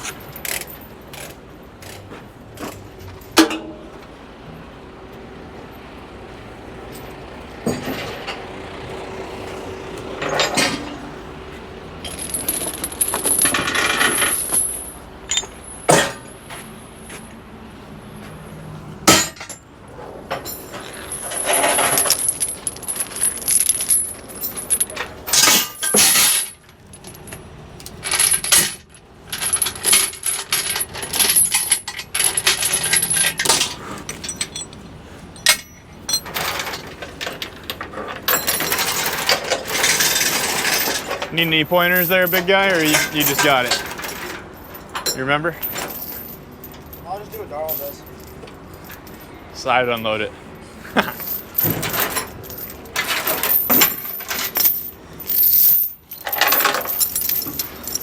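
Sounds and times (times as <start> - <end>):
metal clanking and rattling: 0.0 - 4.0, 7.0 - 8.5, 10.0 - 11.2, 12.0 - 16.6, 19.0 - 49.2, 51.0 - 58.0.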